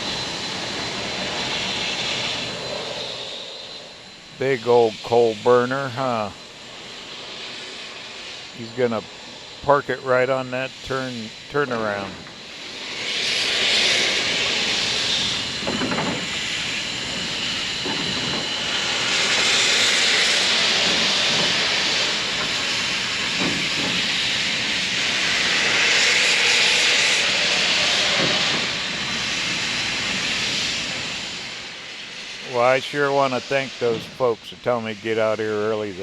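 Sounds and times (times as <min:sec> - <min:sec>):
steam locomotive hissing: 0:00.0 - 0:36.0.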